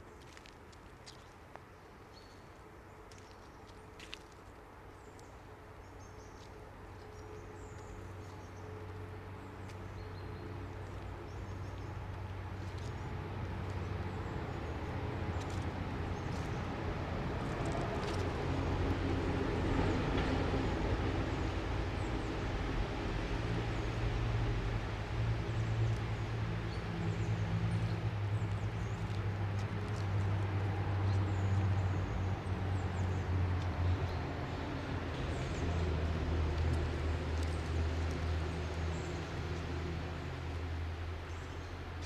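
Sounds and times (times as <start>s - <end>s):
vehicle engine and tyres approaching: 3.0s - 42.0s.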